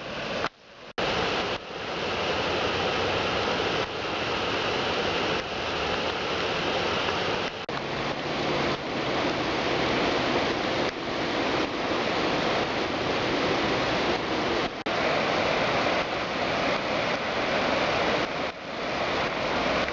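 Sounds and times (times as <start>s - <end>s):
floodwater rushing: 0.0s - 19.9s.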